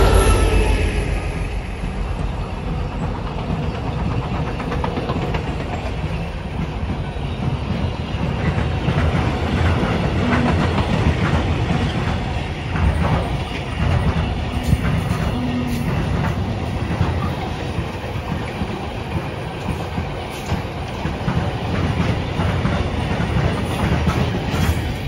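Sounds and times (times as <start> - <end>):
train wheels rumbling on rail: 0.0 - 25.0
wheels clicking over rail joints: 3.0 - 25.0.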